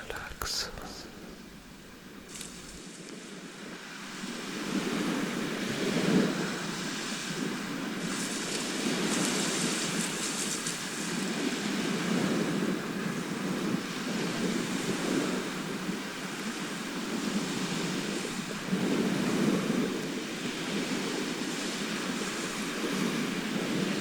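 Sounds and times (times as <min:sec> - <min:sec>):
sea waves washing ashore: 0:01.0 - 0:24.0.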